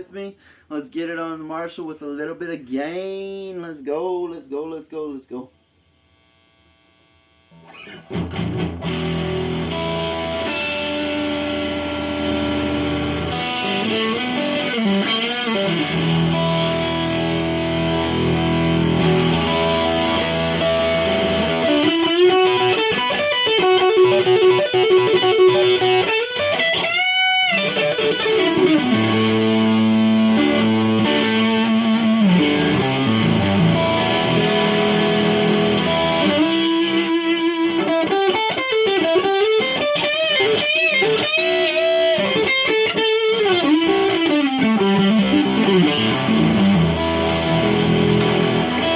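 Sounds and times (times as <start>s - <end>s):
overdriven electric guitar playing blues: 7.5s - 48.9s.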